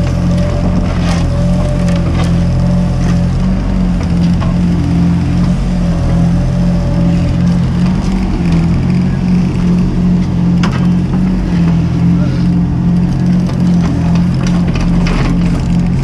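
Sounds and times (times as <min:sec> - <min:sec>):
excavator diesel engine droning: 0:00.0 - 0:16.0.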